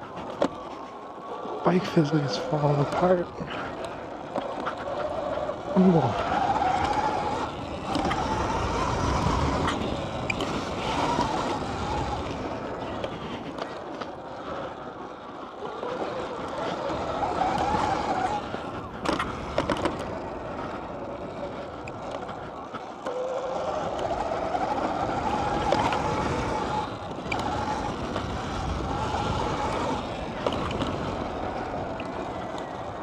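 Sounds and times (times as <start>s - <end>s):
wind noise: 0.0s - 15.0s, 15.8s - 33.0s.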